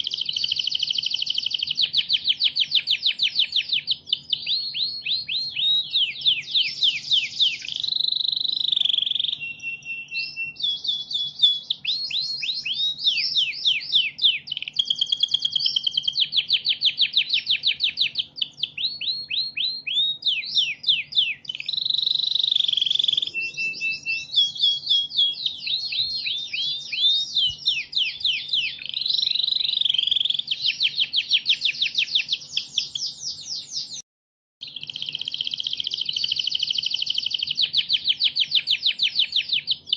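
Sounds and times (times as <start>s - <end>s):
songbird high chirps: 0.0s - 34.0s, 34.6s - 39.9s.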